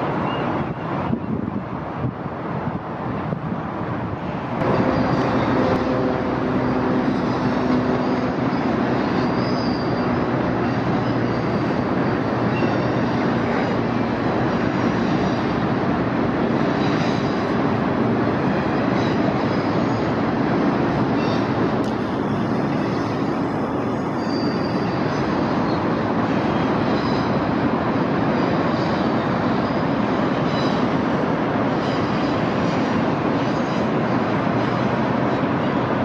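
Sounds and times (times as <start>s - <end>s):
diesel locomotive engine drone: 0.0s - 36.0s.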